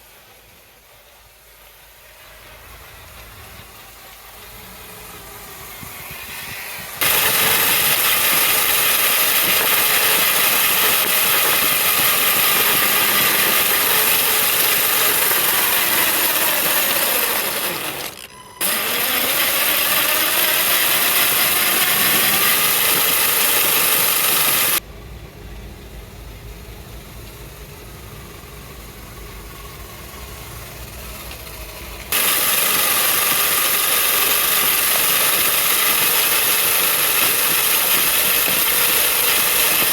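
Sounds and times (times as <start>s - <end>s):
electric motor and gears whining: 2.4s - 24.8s, 27.8s - 39.9s.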